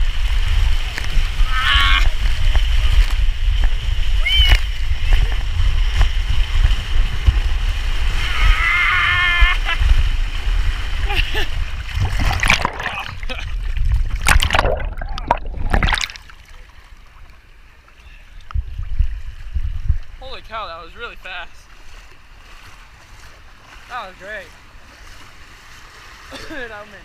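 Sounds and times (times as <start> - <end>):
water and air rushing: 0.0 - 27.0
water splashing: 0.0 - 27.0.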